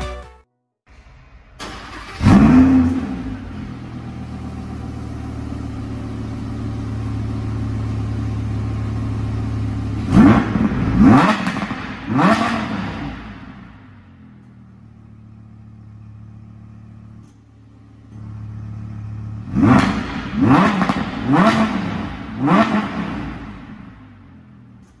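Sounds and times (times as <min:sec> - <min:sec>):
car engine starting and idling: 0:00.9 - 0:25.0
engine throttle blips: 0:01.6 - 0:25.0.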